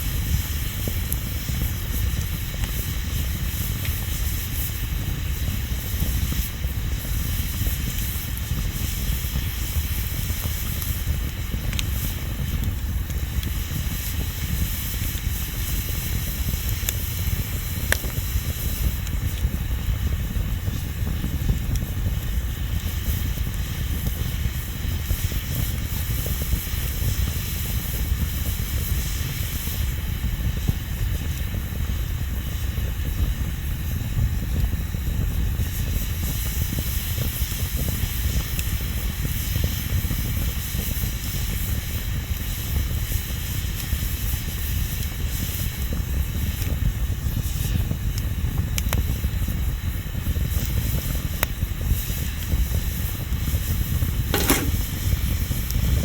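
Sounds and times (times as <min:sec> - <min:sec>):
bonfire rumbling and hissing: 0:00.0 - 0:56.0.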